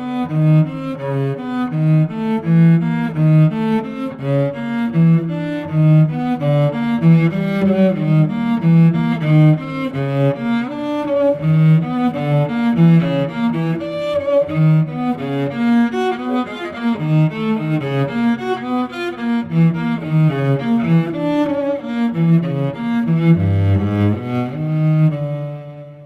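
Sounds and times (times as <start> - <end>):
cello soundtrack music: 0.0 - 26.0.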